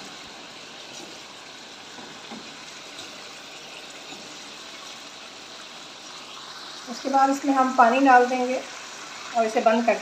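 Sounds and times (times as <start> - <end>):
meat frying in oil: 0.0 - 10.0.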